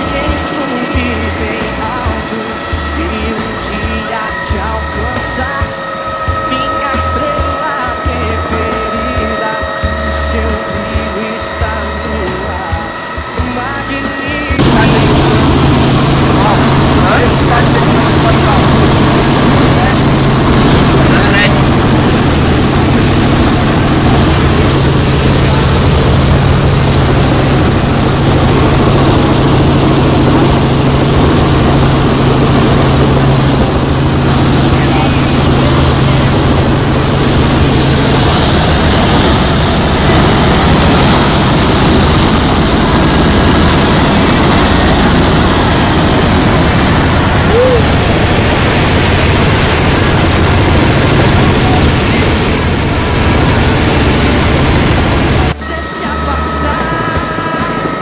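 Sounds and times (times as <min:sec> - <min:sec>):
helicopter engine and rotor noise: 0:00.0 - 0:58.0
low steady hum: 0:00.0 - 0:58.0.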